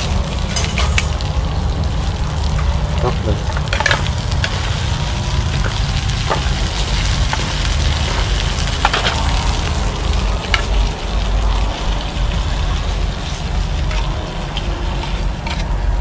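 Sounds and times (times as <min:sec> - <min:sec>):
food sizzling in hot oil: 0:00.0 - 0:16.0
low rumble: 0:00.0 - 0:16.0
oil crackles: 0:00.0 - 0:16.0.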